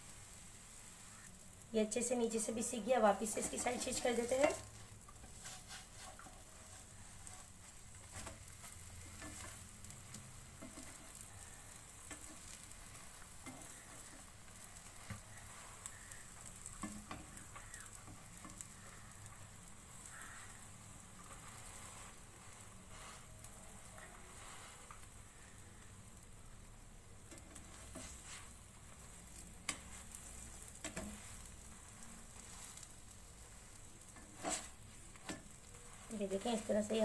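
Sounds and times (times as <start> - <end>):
omelette sizzling in oil: 0.0 - 37.0.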